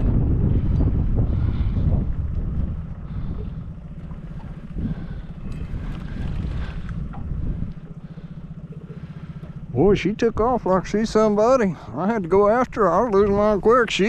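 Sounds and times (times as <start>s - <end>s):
outboard motor rumbling: 0.0s - 14.0s
wind buffeting microphone: 0.0s - 14.0s.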